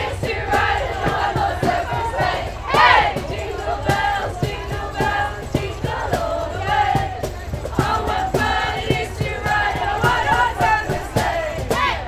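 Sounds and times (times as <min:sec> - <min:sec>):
crowd: 0:00.0 - 0:12.0
people singing: 0:00.0 - 0:12.0
pop music over loudspeakers: 0:00.0 - 0:12.0.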